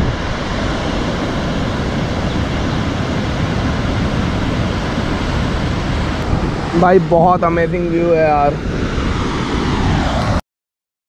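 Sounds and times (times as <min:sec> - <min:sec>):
water rushing from dam spillway: 0:00.0 - 0:10.4.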